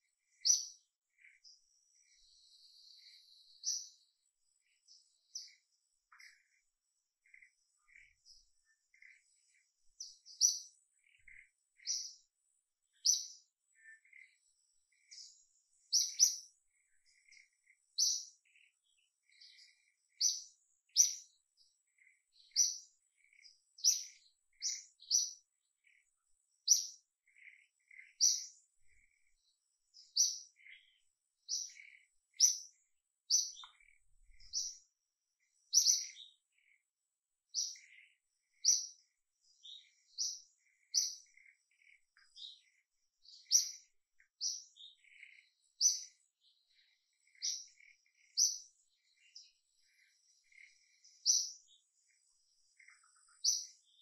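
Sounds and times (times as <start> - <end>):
small bird chirping: 0.0 - 54.0.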